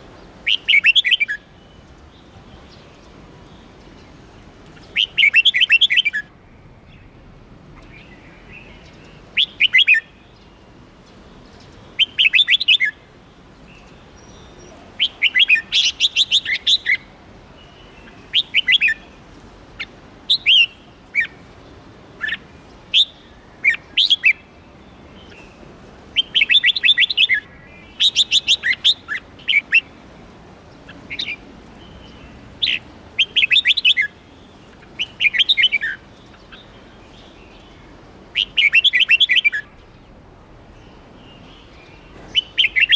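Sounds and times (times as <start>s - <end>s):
faint steady hiss: 0.0s - 42.9s
bird chirping: 4.8s - 19.2s, 19.8s - 30.0s, 30.7s - 42.9s.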